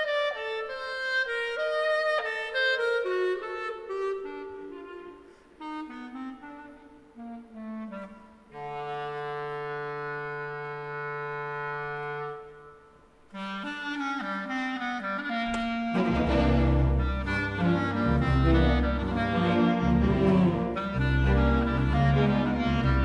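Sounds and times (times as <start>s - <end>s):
clarinet solo: 0.0s - 23.0s.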